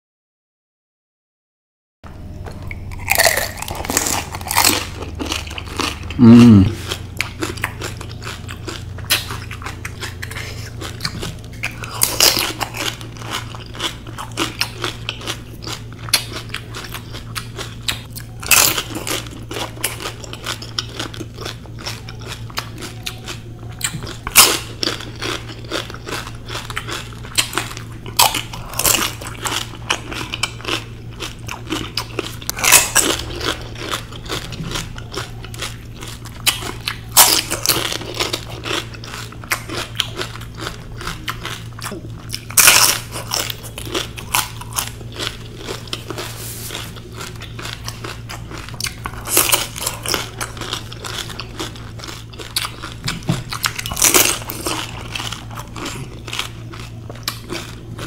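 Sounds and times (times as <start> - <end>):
low hum: 2.0 - 58.0
crunchy chewing: 2.2 - 58.0.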